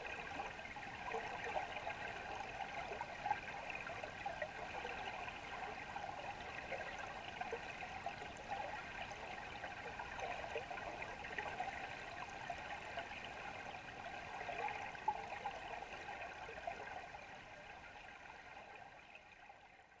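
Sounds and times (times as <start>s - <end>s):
underwater flowing water rush: 0.0s - 19.2s.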